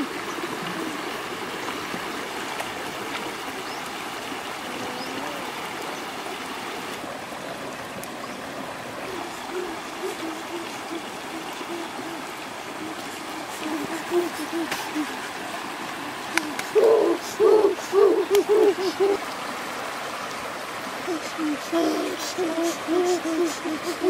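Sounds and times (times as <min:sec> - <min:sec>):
stream running over stones: 0:00.0 - 0:24.0.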